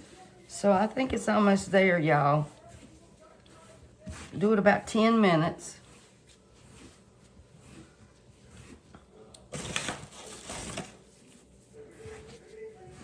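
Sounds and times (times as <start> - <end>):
dough kneaded on counter: 0.0 - 13.0.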